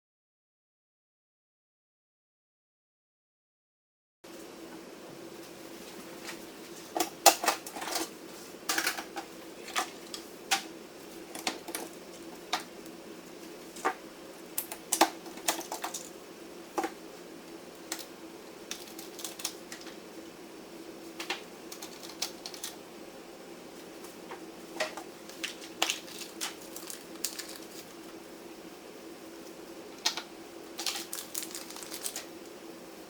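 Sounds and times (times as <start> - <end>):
steady hum: 4.3 - 33.0.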